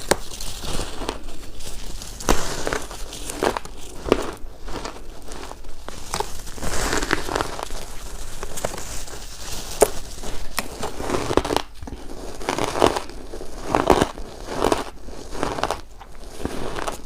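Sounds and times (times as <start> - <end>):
ice crunching in mouth: 0.0 - 17.0.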